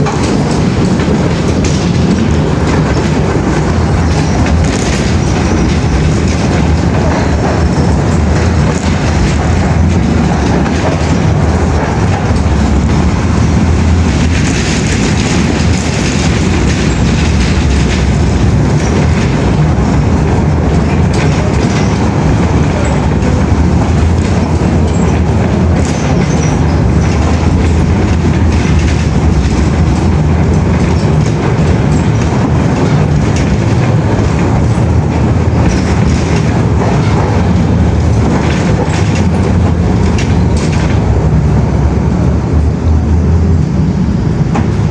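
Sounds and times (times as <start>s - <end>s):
moving vehicle rumble: 0.0s - 44.9s.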